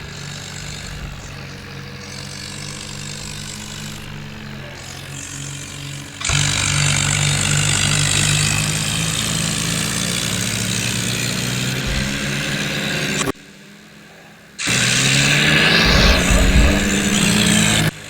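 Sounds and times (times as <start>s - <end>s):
tractor diesel engines running hard: 0.0s - 18.0s.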